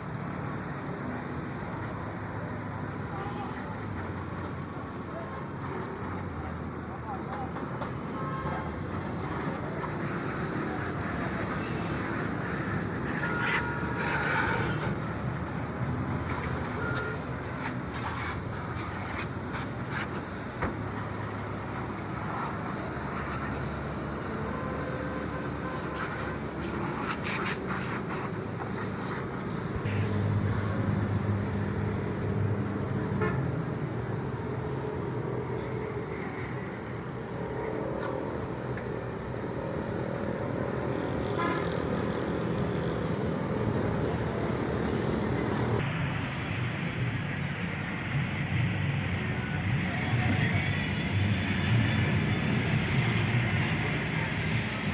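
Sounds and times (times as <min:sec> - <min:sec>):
road traffic: 0:00.0 - 0:54.9.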